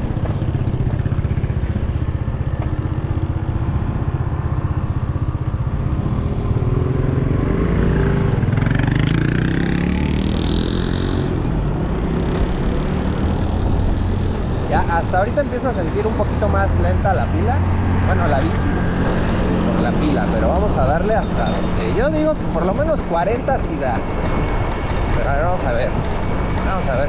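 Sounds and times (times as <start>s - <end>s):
city traffic: 0.0s - 27.0s
passing vehicle whine: 0.0s - 27.0s
wind rumble: 0.0s - 27.0s.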